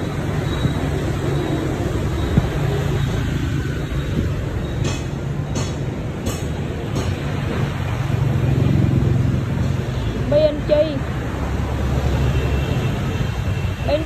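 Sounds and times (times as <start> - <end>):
traffic hum and rumble: 0.0 - 14.0.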